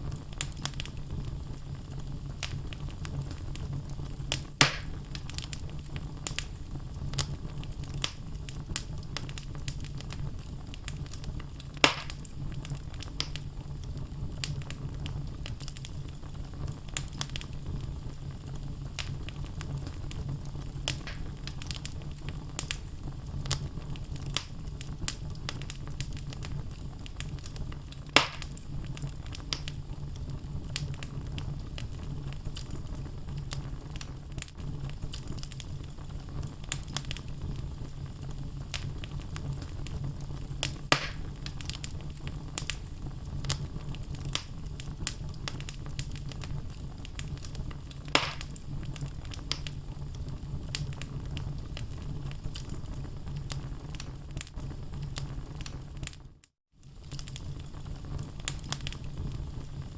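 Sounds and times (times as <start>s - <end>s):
sharp fire pops: 0.0s - 56.2s, 56.8s - 59.9s
logs crackling in fireplace: 0.0s - 59.9s
low fire rumble: 0.0s - 59.9s.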